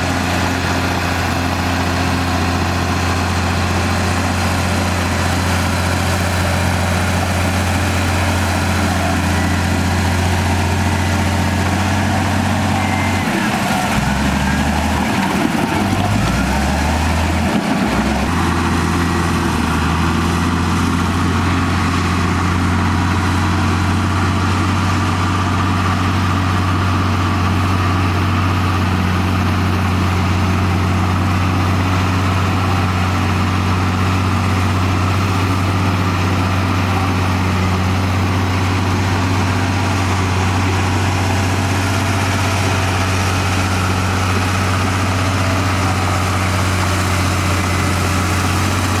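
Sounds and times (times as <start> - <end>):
bulldozer diesel engine humming: 0.0 - 49.0.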